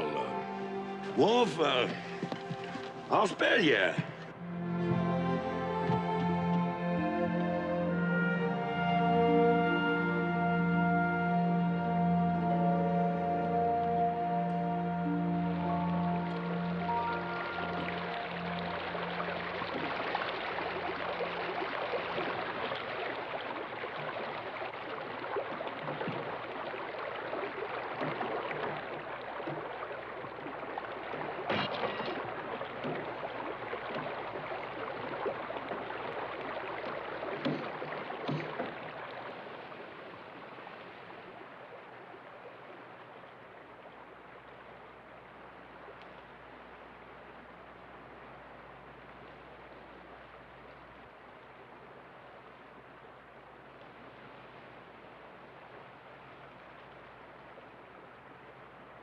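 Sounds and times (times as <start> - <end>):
rushing river water: 0.0 - 59.0.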